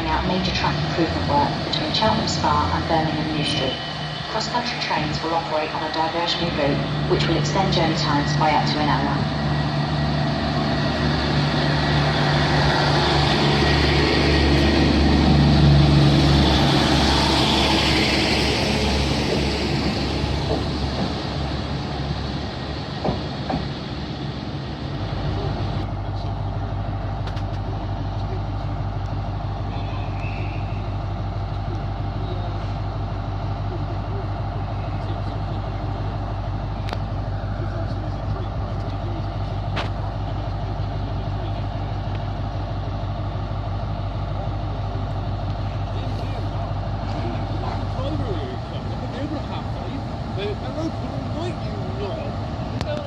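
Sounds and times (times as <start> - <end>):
diesel train engine rumbling: 0.0 - 53.0.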